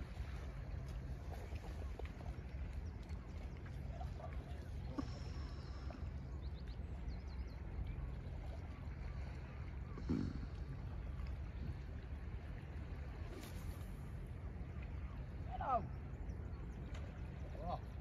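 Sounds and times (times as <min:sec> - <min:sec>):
water lapping among rocks: 0:00.0 - 0:15.9
wind rumble on microphone: 0:00.0 - 0:18.0.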